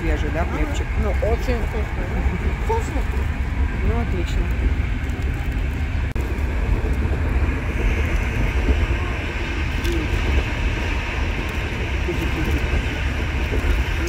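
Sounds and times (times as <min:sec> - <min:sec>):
train rumbling from inside carriage: 0:00.0 - 0:14.0.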